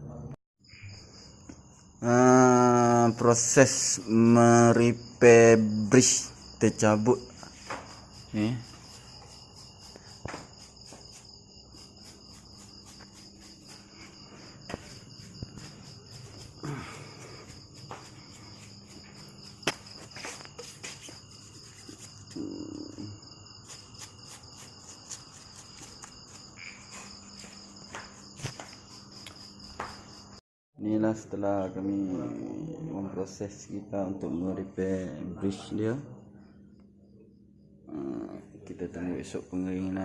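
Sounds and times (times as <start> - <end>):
crickets chirping: 0.1 - 40.0.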